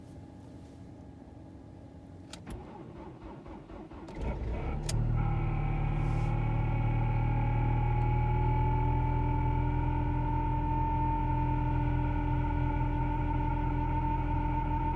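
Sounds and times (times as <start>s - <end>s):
car engine cranking and idling: 2.2s - 14.9s.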